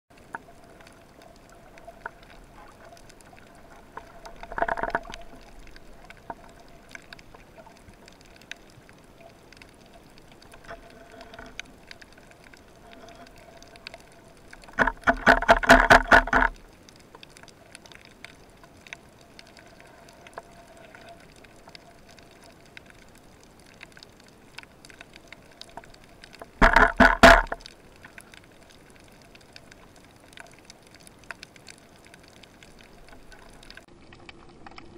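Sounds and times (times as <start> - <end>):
underwater crackle and hiss: 0.1 - 34.9.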